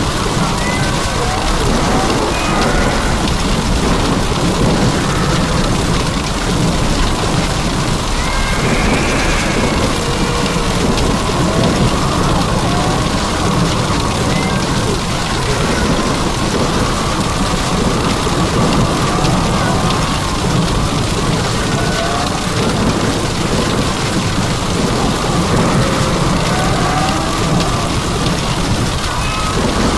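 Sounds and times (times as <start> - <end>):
heavy rain pouring: 0.0 - 29.9
low thunder rumble: 0.0 - 29.9.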